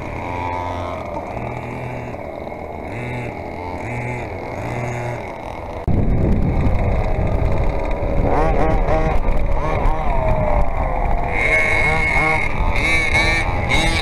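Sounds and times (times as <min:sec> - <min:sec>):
rc buggy engines revving: 0:00.0 - 0:14.0.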